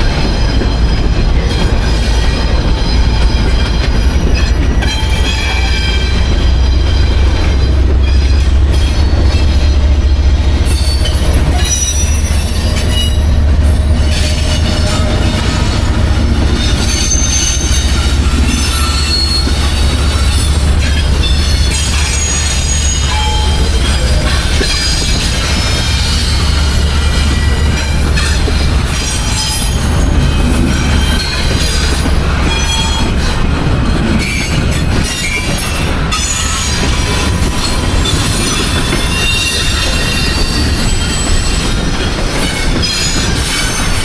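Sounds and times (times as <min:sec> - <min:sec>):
freight train cars rumbling: 0:00.0 - 0:44.0
high-pitched wheel squeals: 0:00.1 - 0:44.0.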